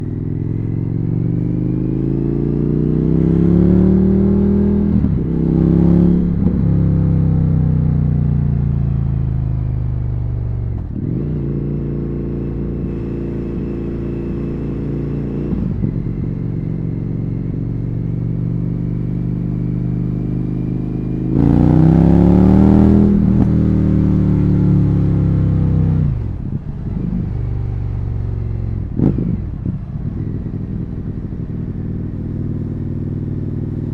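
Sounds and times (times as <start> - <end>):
motorcycle engine and exhaust: 0.0 - 33.9.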